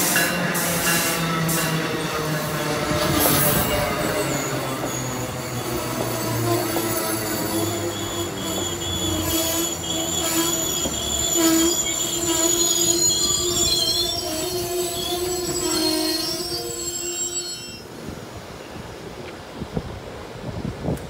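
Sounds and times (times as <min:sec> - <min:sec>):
train wheels squealing: 0:00.0 - 0:18.0
train rumble: 0:00.0 - 0:21.0.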